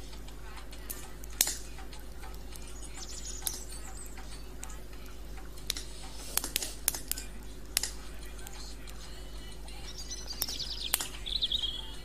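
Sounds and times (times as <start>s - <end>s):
campfire crackling and popping: 0.0s - 12.0s
fire low hiss: 0.0s - 12.0s.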